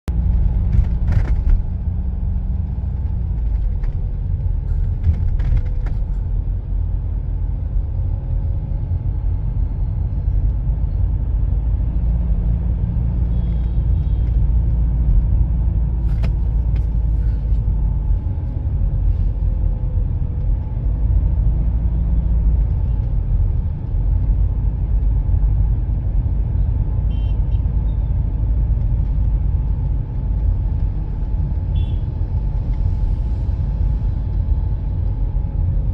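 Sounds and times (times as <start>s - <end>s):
road rumble inside car: 0.0s - 35.9s.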